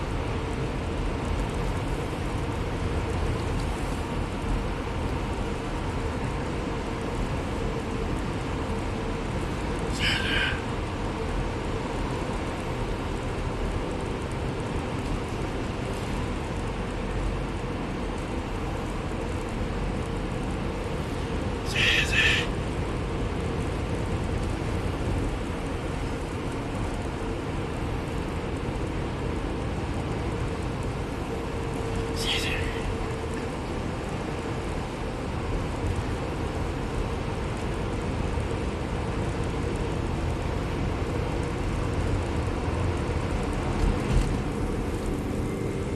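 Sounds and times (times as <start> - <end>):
bus rumble and road noise: 0.0 - 45.9.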